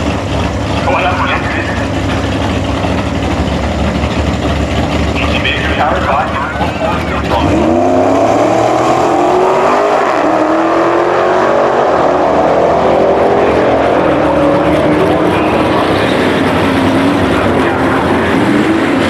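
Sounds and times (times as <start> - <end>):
drag racing engines at full throttle: 0.0 - 19.0.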